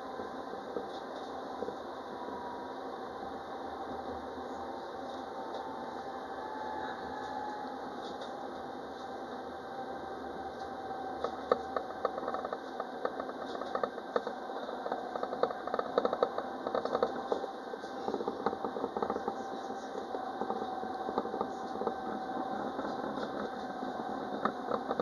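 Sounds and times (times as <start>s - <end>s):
tram running with steady whine: 0.0s - 25.0s.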